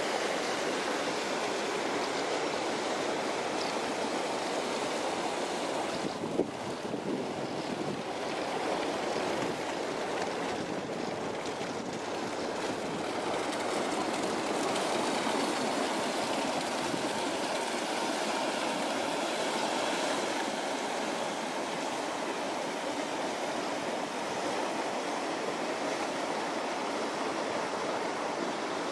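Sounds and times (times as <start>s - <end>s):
water rushing along hull: 0.0s - 28.9s.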